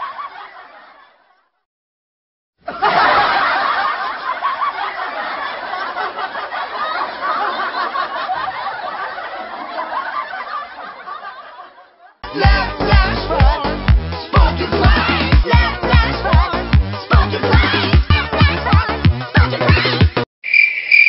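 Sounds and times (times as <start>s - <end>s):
many people laughing: 0.0s - 1.6s, 2.6s - 20.2s.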